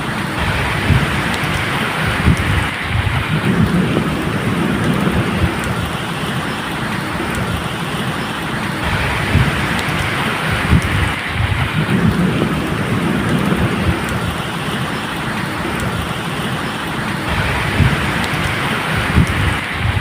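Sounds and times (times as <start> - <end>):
low thunder rumbling: 0.0 - 20.0
rain falling: 0.0 - 20.0.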